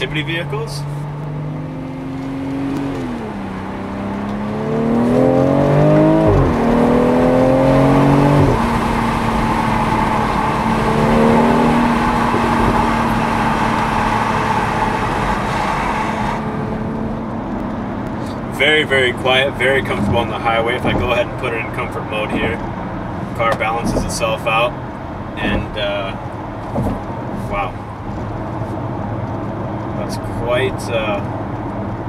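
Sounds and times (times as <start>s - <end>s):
car engine accelerating: 0.0s - 32.0s
road and wind noise: 0.0s - 32.0s.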